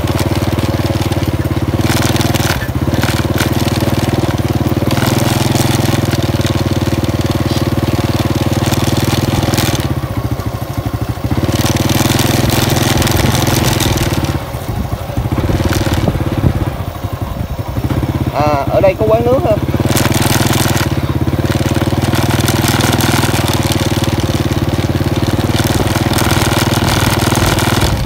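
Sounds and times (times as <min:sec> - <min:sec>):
road and wind noise: 0:00.0 - 0:28.0
small motorcycle engine running: 0:00.0 - 0:28.0.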